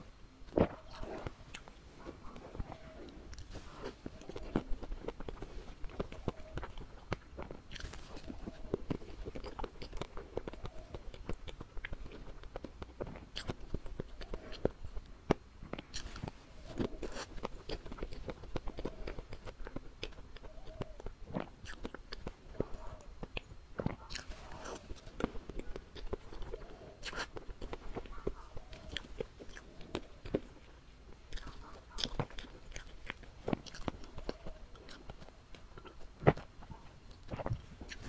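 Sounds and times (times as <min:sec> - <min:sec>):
chewing and lip smacks: 0:00.4 - 0:38.0.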